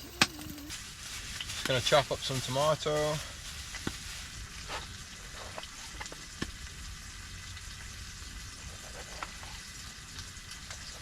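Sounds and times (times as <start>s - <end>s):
burger patty sizzling in pan: 0.0s - 11.0s.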